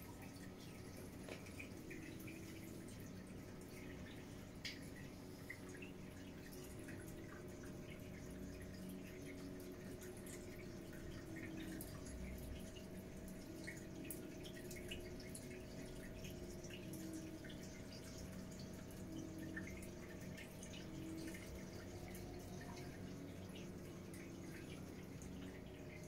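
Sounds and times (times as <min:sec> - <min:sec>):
aquarium water trickling and dripping: 0:00.0 - 0:26.0
steady low hum: 0:00.0 - 0:26.0.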